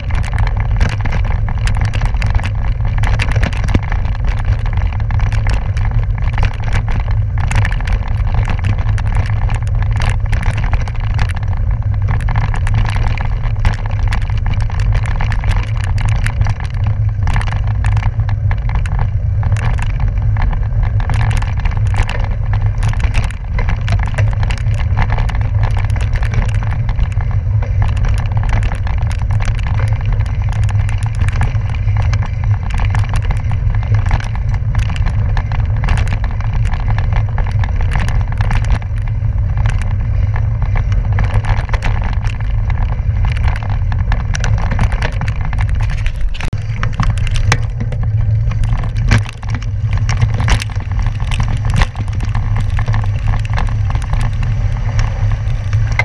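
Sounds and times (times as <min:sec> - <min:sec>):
bike rattling over stones: 0:00.0 - 0:56.0
wind and tyre rumble: 0:00.0 - 0:56.0.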